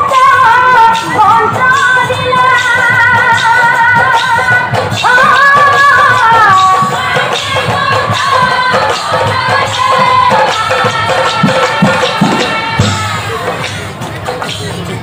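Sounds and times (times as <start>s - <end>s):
woman singing with vibrato: 0.0s - 13.3s.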